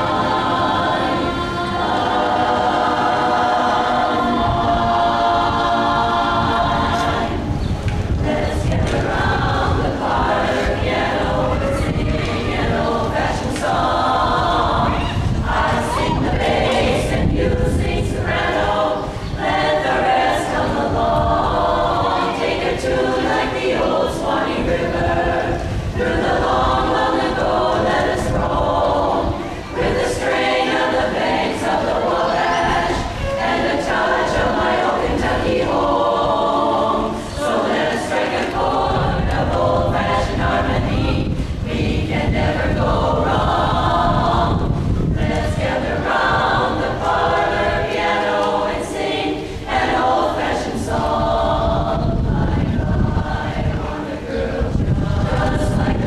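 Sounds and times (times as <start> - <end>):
women's chorus singing: 0.0 - 56.0.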